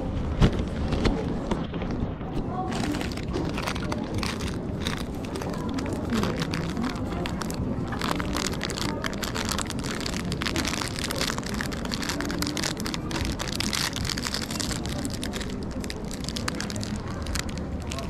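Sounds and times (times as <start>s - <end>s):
plastic packaging crinkling: 2.6s - 18.0s.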